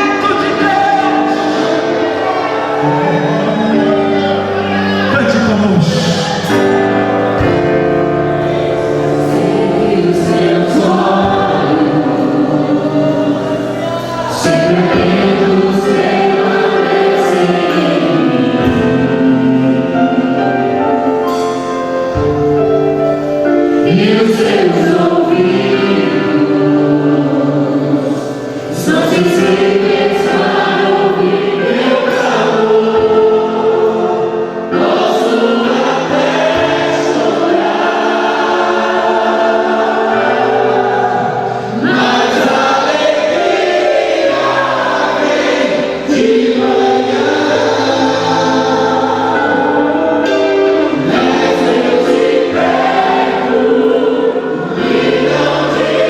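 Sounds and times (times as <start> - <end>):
group of voices singing: 0.0 - 56.0
instrumental accompaniment: 0.0 - 56.0.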